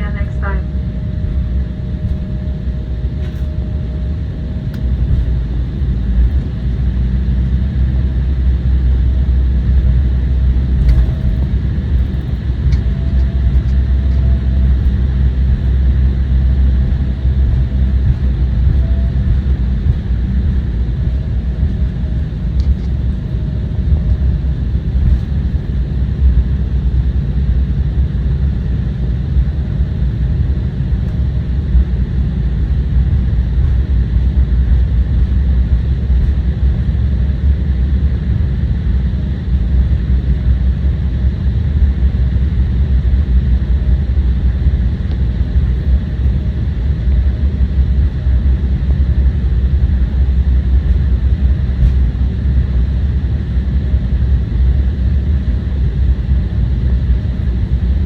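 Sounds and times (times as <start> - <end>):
jet cabin low rumble: 0.0 - 58.0.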